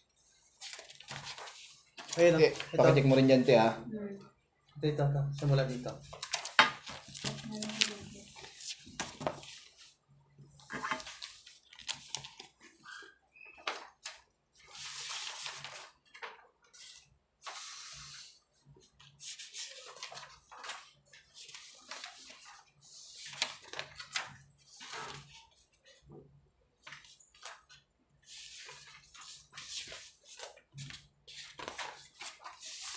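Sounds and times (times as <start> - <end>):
paper pages rustling: 0.5 - 3.4, 5.7 - 26.0, 26.8 - 32.9.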